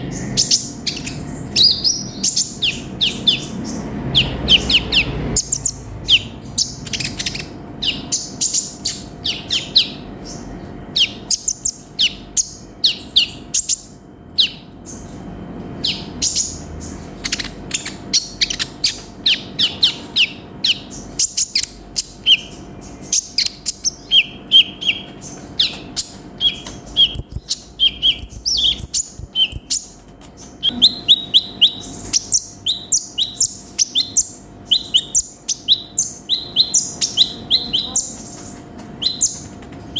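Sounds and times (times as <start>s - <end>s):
bird singing high chirps: 0.0s - 15.2s, 15.8s - 39.4s.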